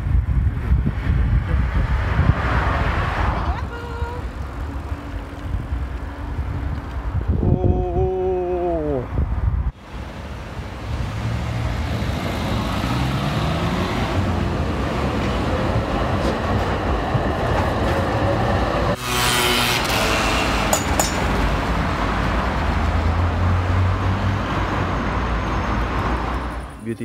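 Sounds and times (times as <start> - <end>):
tram running on rails: 0.0 - 7.4, 9.2 - 27.0
street traffic: 0.0 - 27.0.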